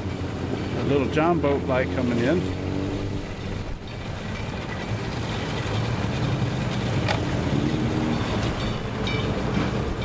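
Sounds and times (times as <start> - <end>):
boat wake washing: 0.0 - 10.0
outboard motor running: 0.0 - 10.0.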